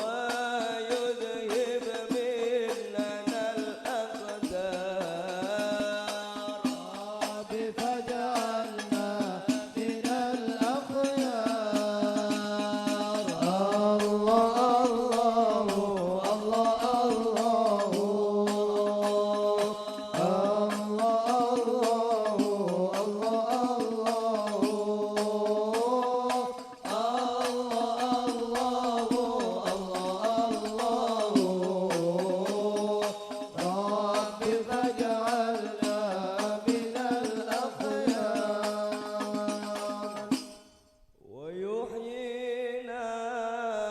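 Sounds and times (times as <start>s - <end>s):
frame drums: 0.0s - 40.8s
devotional singing: 0.0s - 43.9s.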